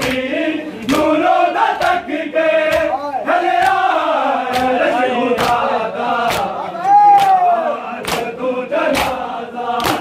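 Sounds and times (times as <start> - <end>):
men chanting lament: 0.0 - 10.0.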